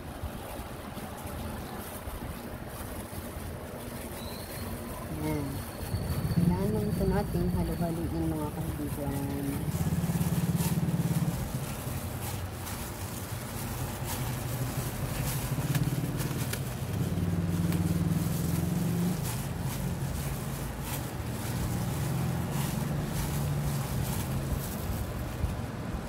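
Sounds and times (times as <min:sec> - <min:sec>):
hand mixing sticky dough: 0:00.3 - 0:26.0.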